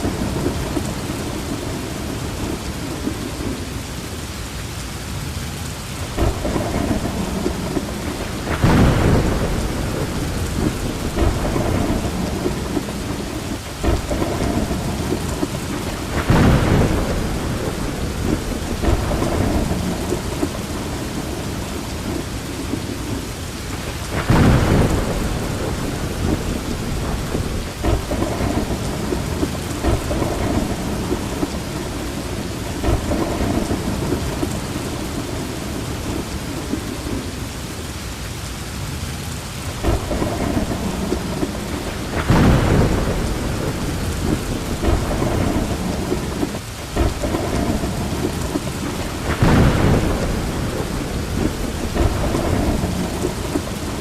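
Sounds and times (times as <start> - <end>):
thunder claps: 0.0 - 3.8, 6.0 - 37.3, 39.7 - 54.0
thunder rumbling: 0.0 - 4.4, 5.2 - 37.9, 38.9 - 54.0
heavy rain falling: 0.0 - 54.0.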